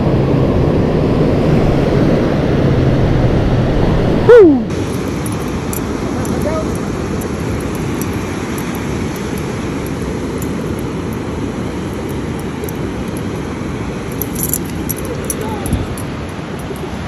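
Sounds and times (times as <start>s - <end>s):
waves breaking: 0.0s - 17.0s
wind buffeting microphone: 0.0s - 17.0s.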